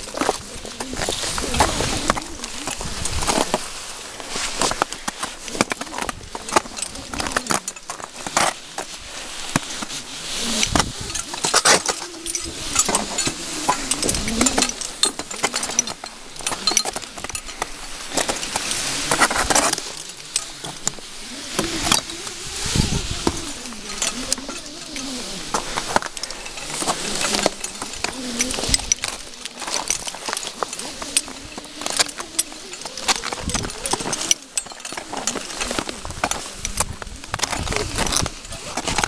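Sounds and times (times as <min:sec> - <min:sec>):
metal gear clinking: 0:00.0 - 0:39.0.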